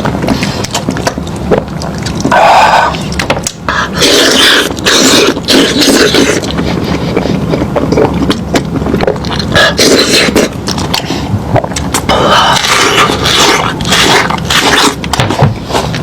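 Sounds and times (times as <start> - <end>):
person chewing meat: 0.0 - 16.0.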